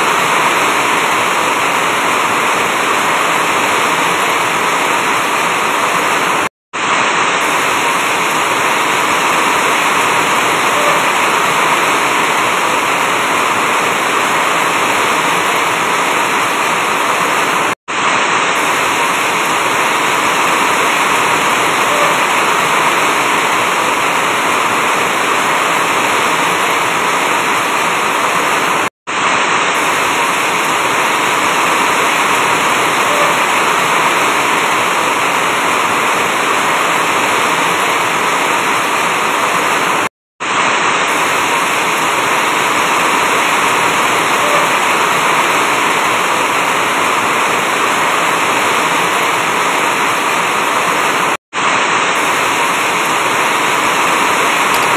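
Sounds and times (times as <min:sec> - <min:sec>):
heavy rain on a roof: 0:00.0 - 0:54.9.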